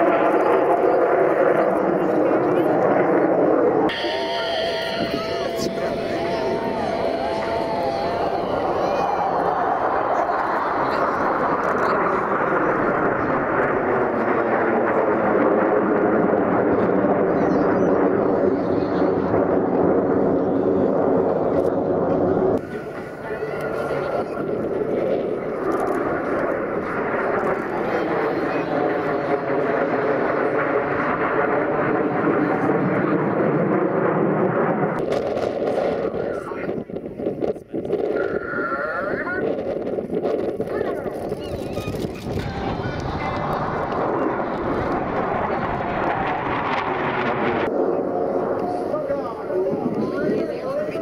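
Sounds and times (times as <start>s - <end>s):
jet engines flying overhead: 0.0s - 51.0s.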